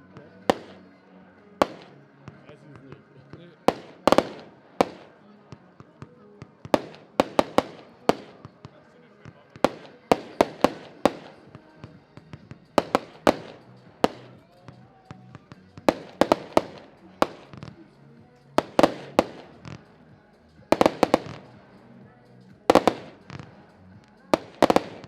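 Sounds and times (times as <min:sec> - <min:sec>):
firework bangs echoing: 0:00.4 - 0:00.9, 0:01.6 - 0:17.9, 0:18.6 - 0:19.9, 0:20.7 - 0:21.8, 0:22.6 - 0:23.7, 0:24.3 - 0:25.0.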